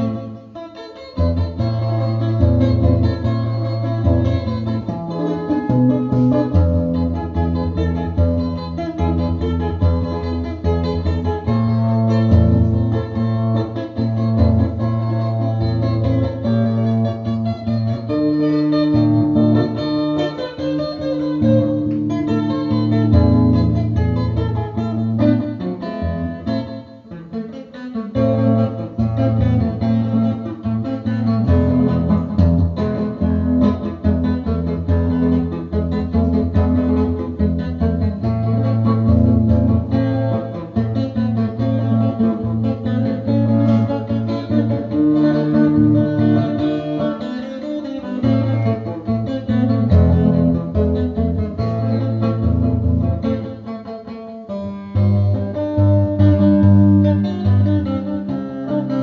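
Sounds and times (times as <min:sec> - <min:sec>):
guitar background music: 0:00.0 - 0:59.0.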